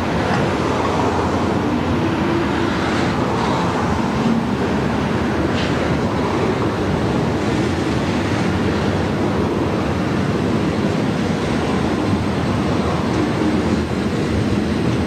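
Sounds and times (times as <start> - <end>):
train wheels roaring on rail: 0.0 - 15.0.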